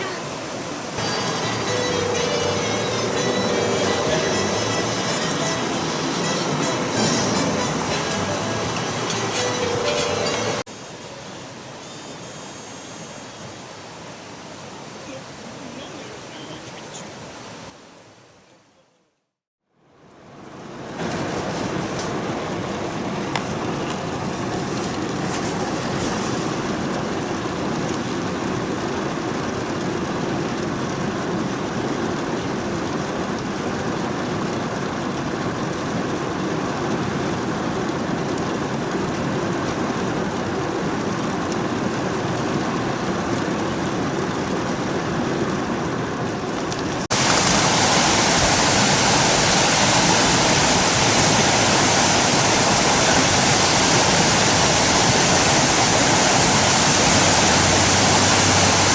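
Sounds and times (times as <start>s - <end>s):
steady rushing noise: 0.0s - 18.2s, 20.3s - 58.9s
water rushing: 0.0s - 18.6s, 20.1s - 58.9s.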